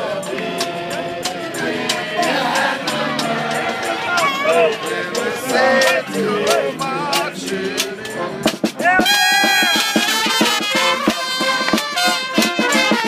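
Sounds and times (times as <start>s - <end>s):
brass band playing: 0.0s - 13.0s
crowd singing along: 0.0s - 13.0s
drum and cymbal strokes: 0.0s - 13.0s.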